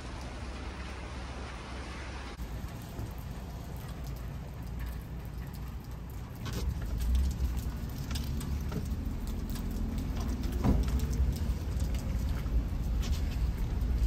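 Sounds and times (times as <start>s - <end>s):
raindrops ticking: 0.0s - 14.0s
vehicle engine rumble: 0.0s - 14.0s.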